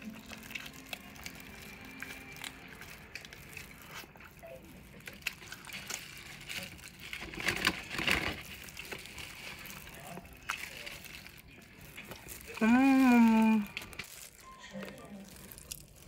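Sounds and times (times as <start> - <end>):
biting and chewing: 0.0 - 16.0
plastic gloves crinkling: 0.0 - 16.0.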